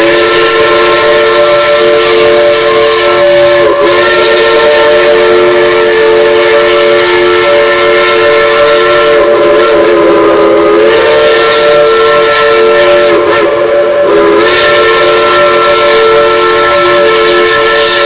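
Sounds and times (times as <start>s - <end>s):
loud steam hissing: 0.0s - 18.0s
steam whistles blowing chord: 0.0s - 18.0s.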